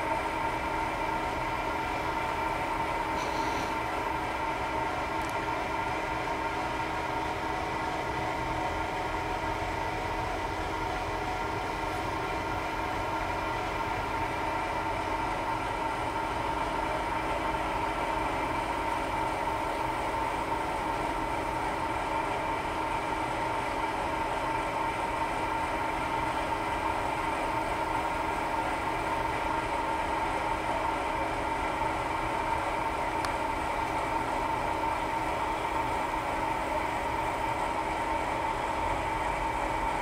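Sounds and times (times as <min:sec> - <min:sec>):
locomotive drone with whine: 0:00.0 - 0:40.0.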